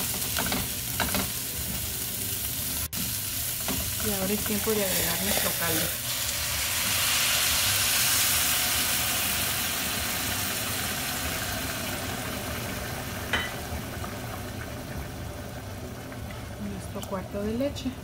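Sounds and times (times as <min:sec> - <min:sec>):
broth sizzling in hot pan: 0:00.0 - 0:17.1.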